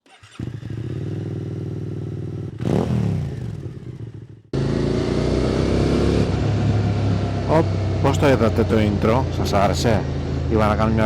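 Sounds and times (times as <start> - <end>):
motorcycle engine idling and revving: 0.0 - 11.0
motorcycle engine running while riding: 0.2 - 11.0.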